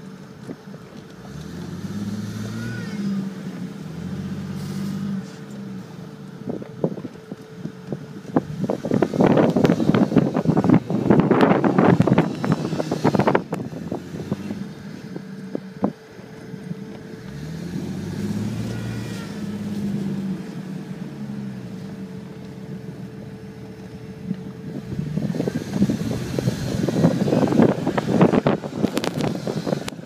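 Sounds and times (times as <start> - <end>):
car engine revving under load: 0.0 - 30.0
tyres churning through snow: 0.0 - 30.0.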